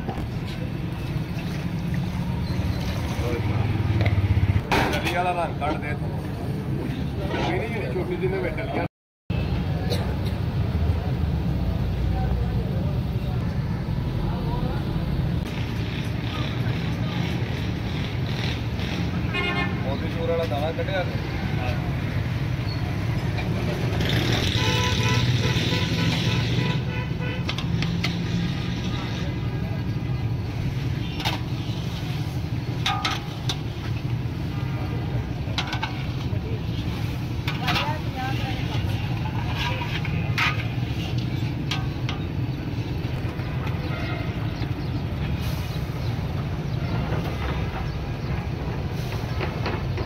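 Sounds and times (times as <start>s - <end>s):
street traffic rumble: 0.0s - 50.0s.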